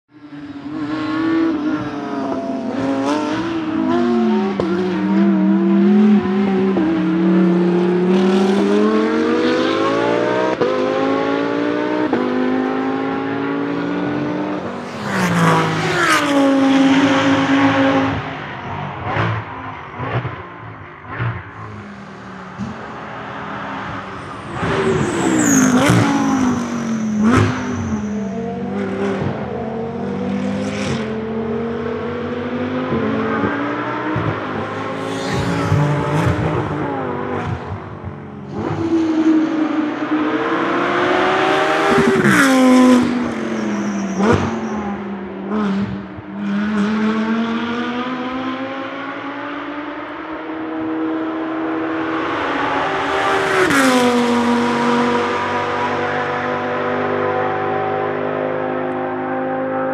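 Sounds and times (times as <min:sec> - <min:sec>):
race car engine: 0:00.1 - 0:59.9.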